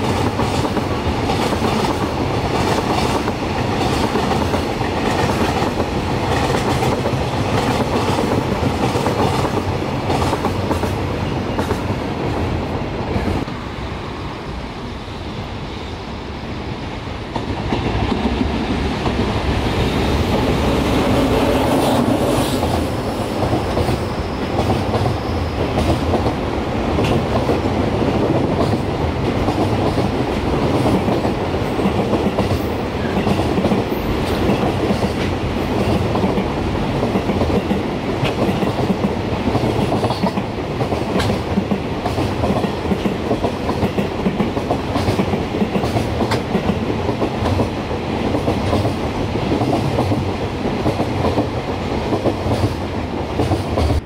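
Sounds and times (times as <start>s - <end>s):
train wheels clattering on rail joints: 0.0s - 12.1s, 17.3s - 54.0s.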